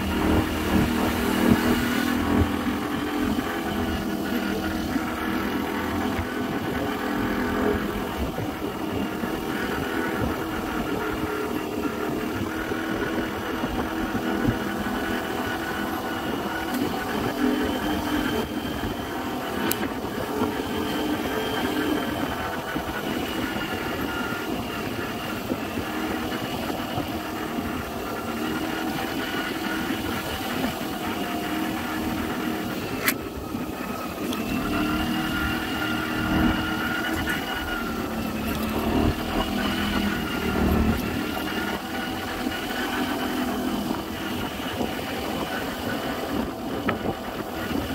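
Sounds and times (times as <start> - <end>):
scooter engine running: 0.0 - 47.9
wind and road noise: 0.0 - 47.9.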